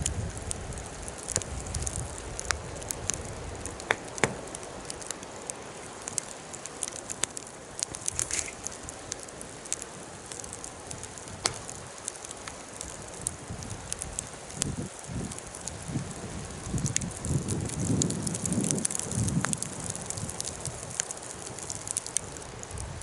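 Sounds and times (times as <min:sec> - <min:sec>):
low hiss: 0:00.0 - 0:23.0
wood fire crackling and popping: 0:00.0 - 0:23.0.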